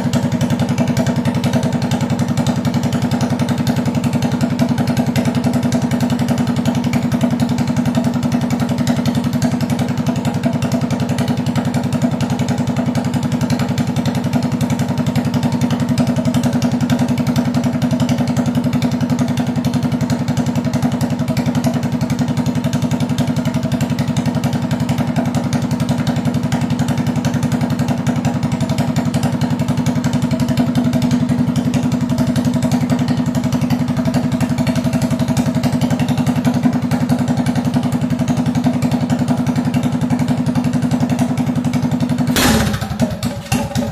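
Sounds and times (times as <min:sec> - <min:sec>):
minibike engine idling: 0:00.0 - 0:43.9.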